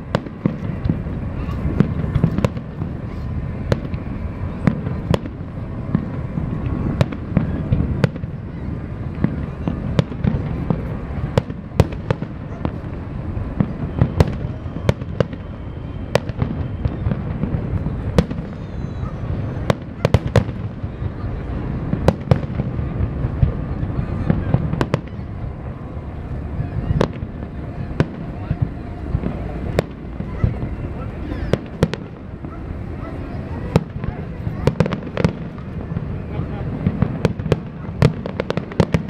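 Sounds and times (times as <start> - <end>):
distant fireworks rumble: 0.0 - 39.0.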